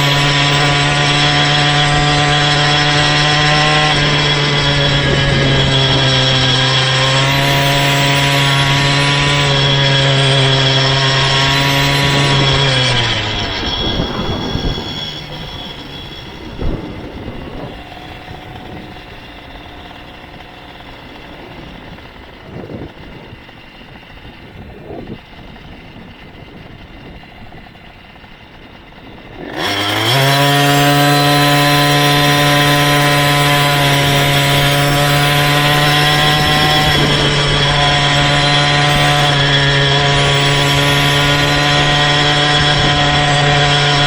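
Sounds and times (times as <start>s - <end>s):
small motorized bicycle engine: 0.0s - 44.0s.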